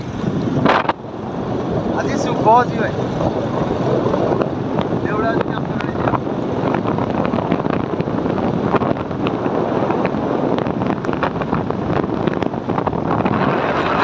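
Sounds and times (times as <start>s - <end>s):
motorbike engine rumble: 0.0s - 14.0s
wind buffeting microphone: 0.0s - 14.0s.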